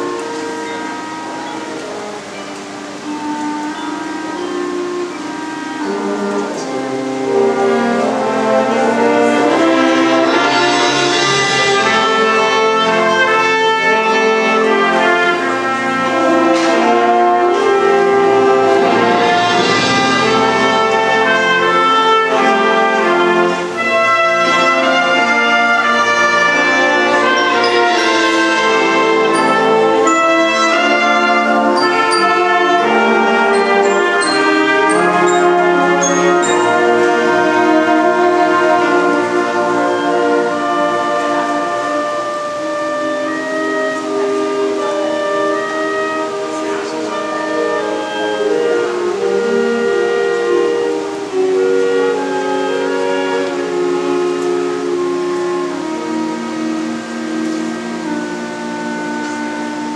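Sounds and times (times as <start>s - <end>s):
concert wind band playing: 0.0s - 59.9s.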